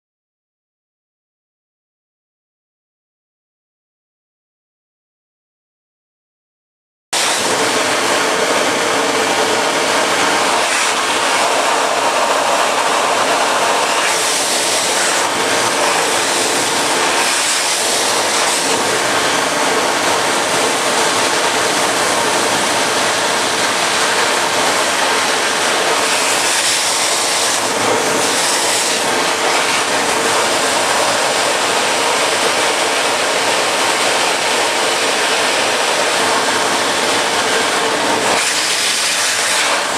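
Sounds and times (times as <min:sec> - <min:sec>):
electric hand drier blowing: 0:07.2 - 0:39.9.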